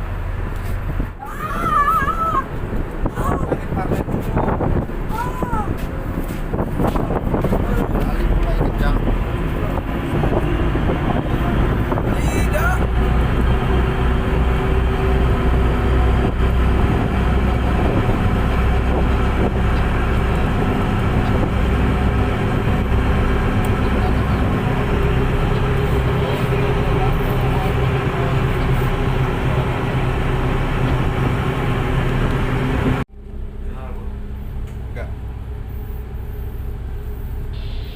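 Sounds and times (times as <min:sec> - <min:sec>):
boat diesel engines droning: 0:00.0 - 0:37.9.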